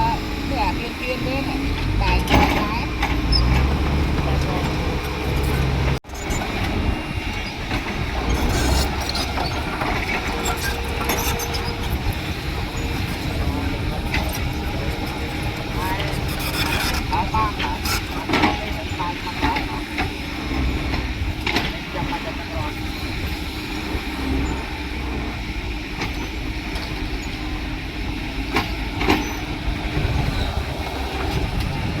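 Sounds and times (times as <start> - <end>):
construction machinery engine rumble: 0.0 - 32.0.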